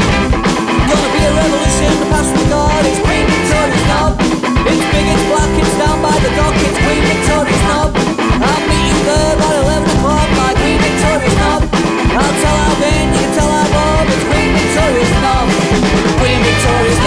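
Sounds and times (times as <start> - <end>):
punk rock song: 0.0 - 17.0.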